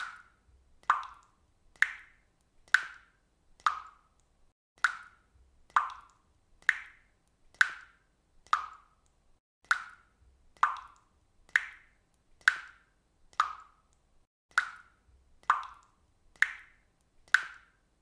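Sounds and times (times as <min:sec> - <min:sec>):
water dripping from a faucet: 0:00.0 - 0:18.0.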